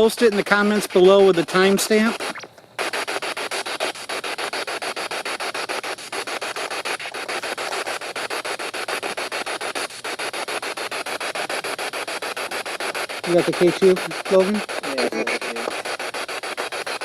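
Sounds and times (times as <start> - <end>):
chopped bursts of radio static: 0.0 - 17.0.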